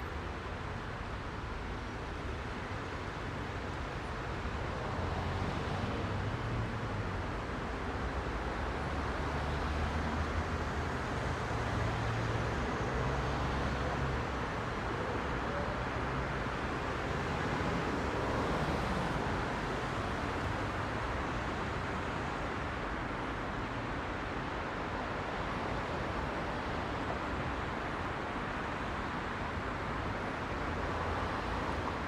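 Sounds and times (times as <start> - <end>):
heavy road traffic: 0.0 - 32.0.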